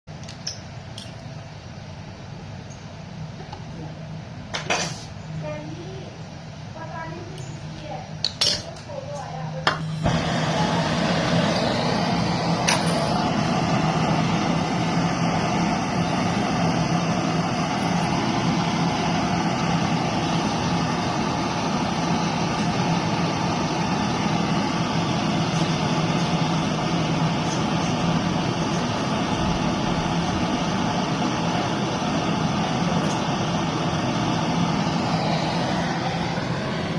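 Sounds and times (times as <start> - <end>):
machine humming with hiss: 2.4 - 36.9.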